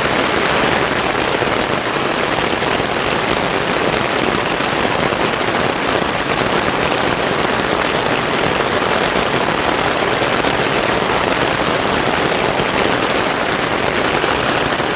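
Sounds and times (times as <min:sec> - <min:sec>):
heavy rain falling: 0:00.0 - 0:14.9.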